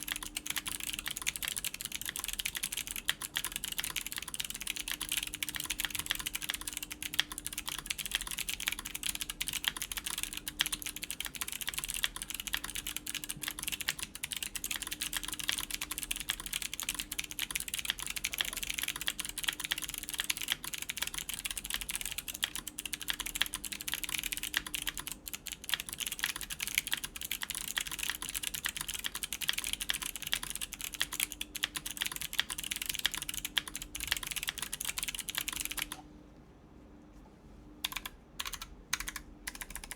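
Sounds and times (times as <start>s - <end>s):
typing on mechanical keyboard: 0.0s - 36.0s, 37.8s - 39.9s.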